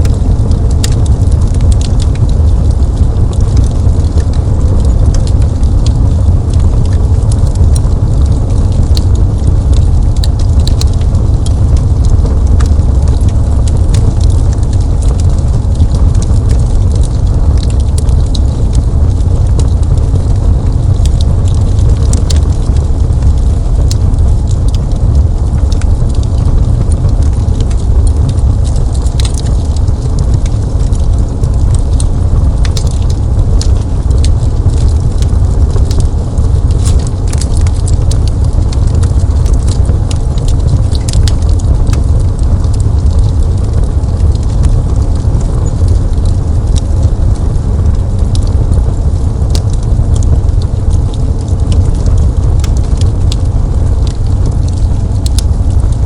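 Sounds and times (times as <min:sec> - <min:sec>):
deep rumble: 0:00.0 - 0:56.0
fire crackling: 0:00.0 - 0:56.0
fire pops and snaps: 0:00.0 - 0:56.0.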